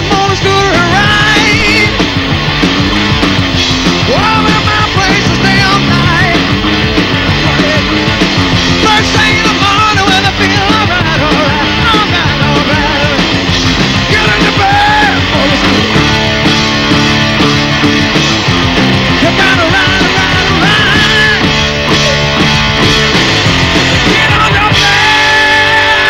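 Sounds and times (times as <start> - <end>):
bending lead guitar line: 0.0 - 26.0
hard rock band playing: 0.0 - 26.0.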